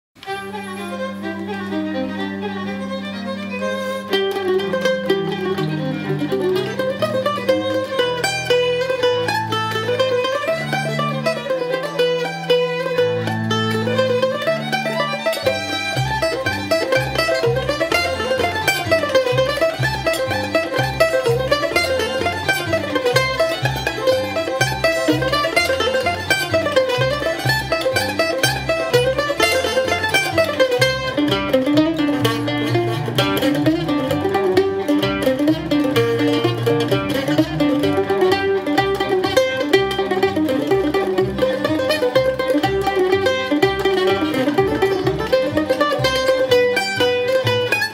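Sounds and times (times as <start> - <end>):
mandolin picking fast melody: 0.2 - 47.9
plucked bass line: 0.2 - 47.9.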